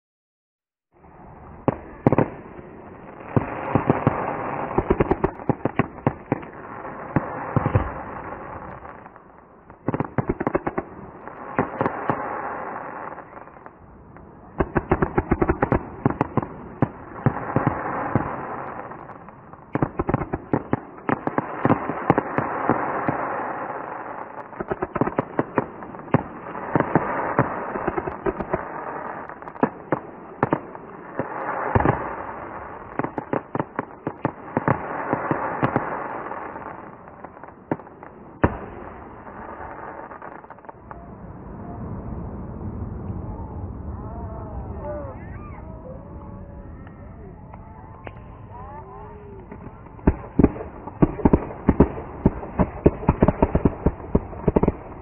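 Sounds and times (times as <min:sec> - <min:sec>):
fireworks bursting and crackling: 0:01.0 - 0:41.2, 0:47.5 - 0:55.0.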